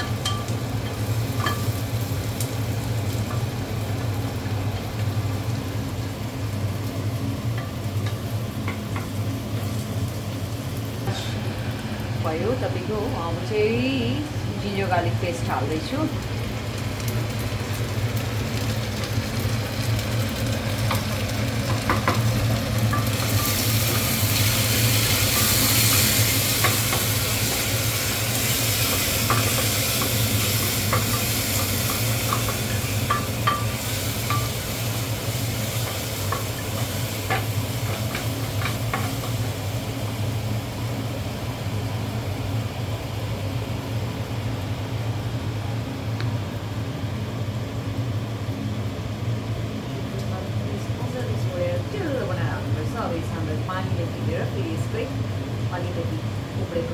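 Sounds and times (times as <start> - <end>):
onions sizzling in hot oil: 0.0 - 56.9
steady low hum: 0.0 - 56.9.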